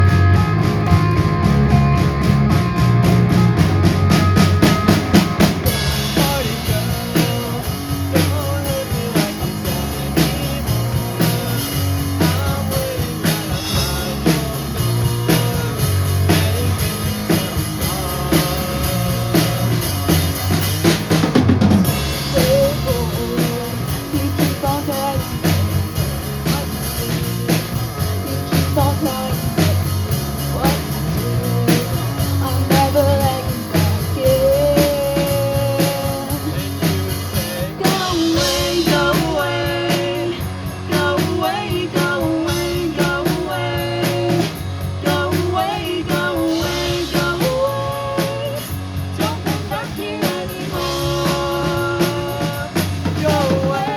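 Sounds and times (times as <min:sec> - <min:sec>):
bass drum and snare hits: 0:00.0 - 0:53.9
rock band playing live: 0:00.0 - 0:53.9.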